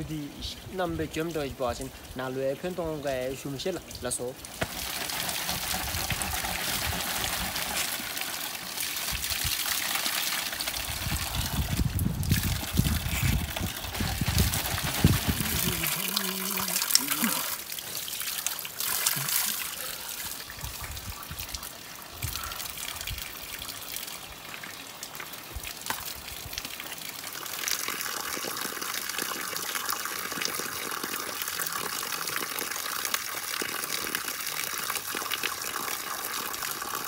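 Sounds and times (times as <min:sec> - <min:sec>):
water gushing onto rock: 0:02.8 - 0:37.0.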